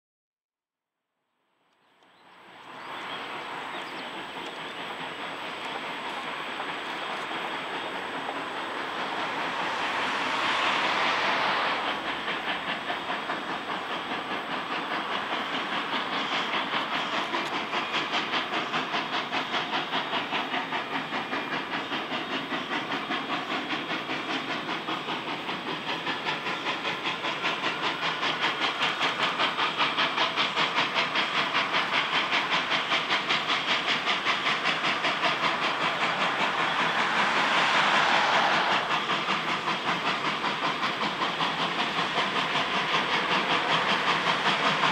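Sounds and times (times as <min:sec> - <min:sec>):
steam hissing: 0:01.8 - 0:44.9
steam locomotive exhaust chuffs: 0:01.8 - 0:44.9.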